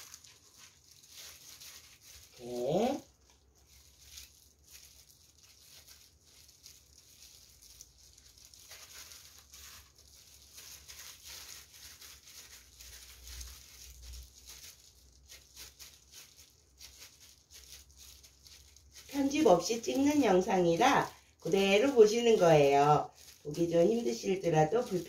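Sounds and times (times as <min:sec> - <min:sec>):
plastic gloves crinkling: 0:00.0 - 0:25.0.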